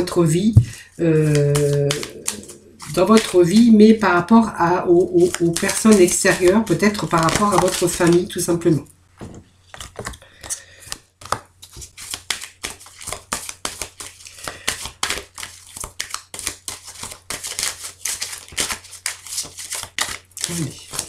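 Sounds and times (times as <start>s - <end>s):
cards being shuffled: 0.0s - 4.2s, 5.0s - 8.6s, 9.2s - 21.0s.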